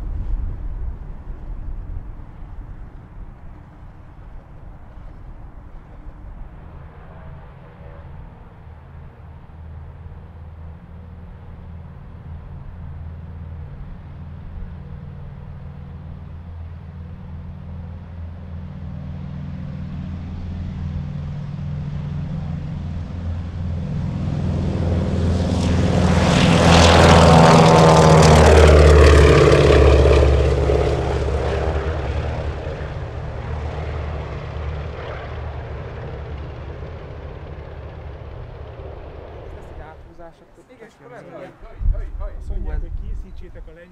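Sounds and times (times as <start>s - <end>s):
propeller aircraft engines passing: 0.0s - 43.9s.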